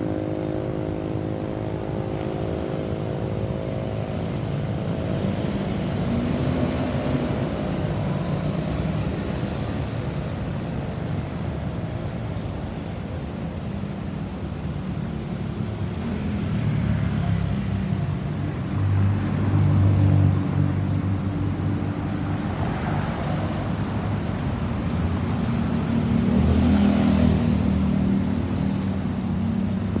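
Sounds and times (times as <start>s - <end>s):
vehicles passing by: 0.0s - 30.0s.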